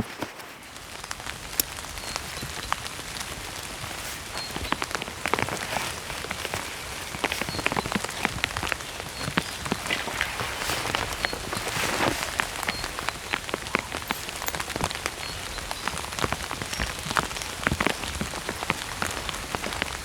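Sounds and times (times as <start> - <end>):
rain drops hitting: 0.0 - 20.0.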